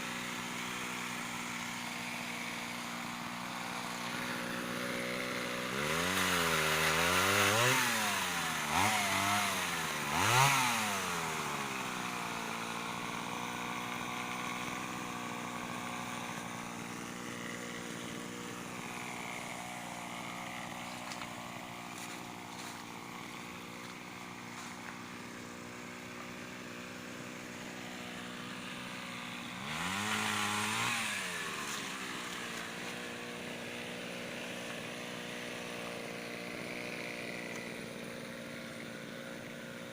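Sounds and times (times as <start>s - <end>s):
two-stroke engine idling and revving: 0.0s - 39.9s.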